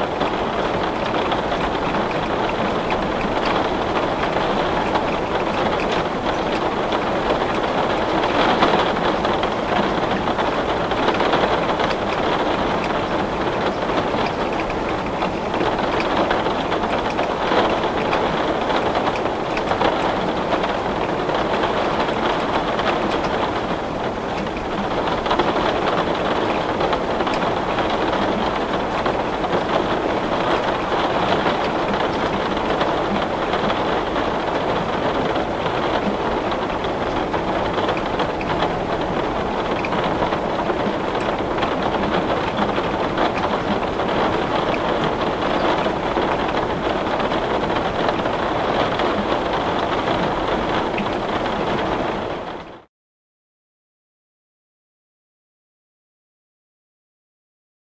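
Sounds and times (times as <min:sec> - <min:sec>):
heavy rain on window glass: 0:00.0 - 0:52.9.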